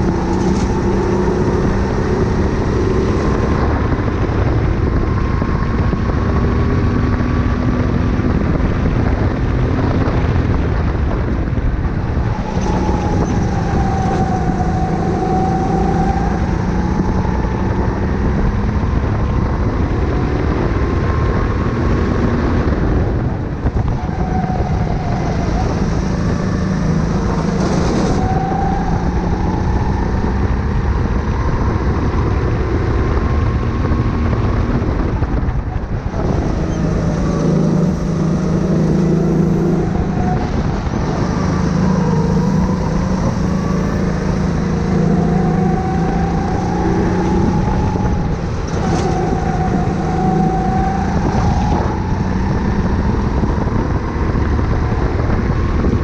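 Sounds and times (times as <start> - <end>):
go-kart engine at speed: 0.0 - 56.0.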